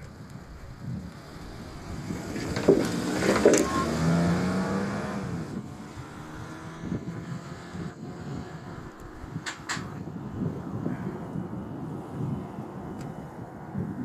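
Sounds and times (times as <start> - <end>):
motor vehicle passing by: 0.8 - 14.0.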